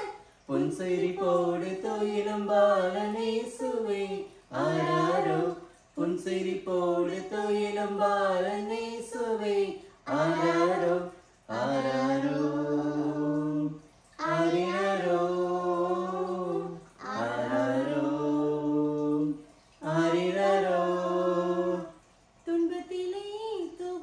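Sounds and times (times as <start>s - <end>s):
woman and children singing: 0.0s - 24.0s.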